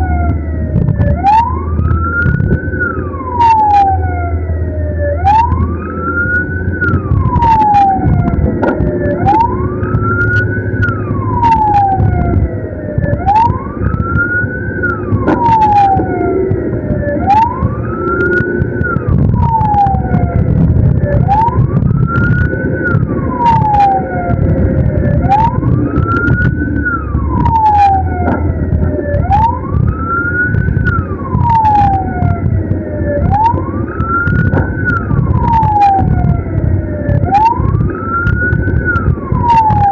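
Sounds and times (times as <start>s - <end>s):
ambulance siren wailing: 0.0s - 39.9s
engine and road rumble: 0.0s - 39.9s.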